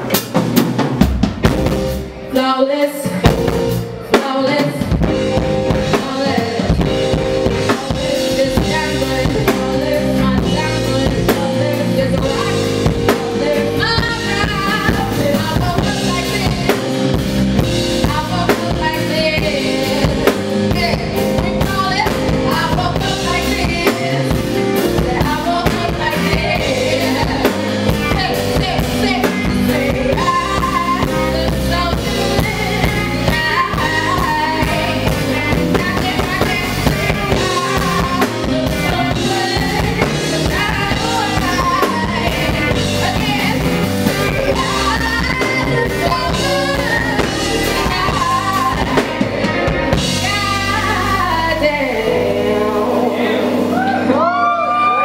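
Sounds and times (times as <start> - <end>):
live band playing: 0.0 - 55.0
woman singing: 2.3 - 55.0.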